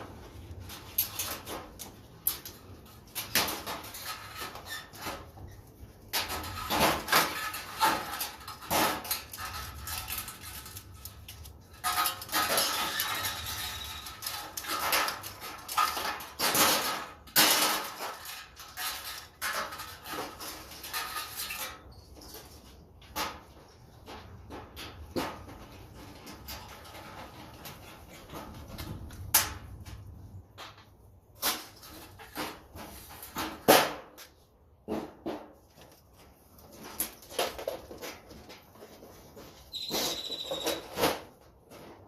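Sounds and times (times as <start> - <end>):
sheet metal parts clanking: 0.0 - 38.8.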